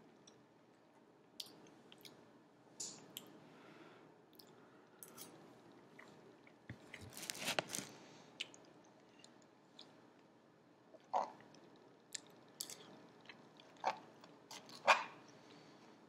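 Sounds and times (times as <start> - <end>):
soft chewing: 0.2 - 3.4, 4.3 - 10.3, 10.9 - 15.7.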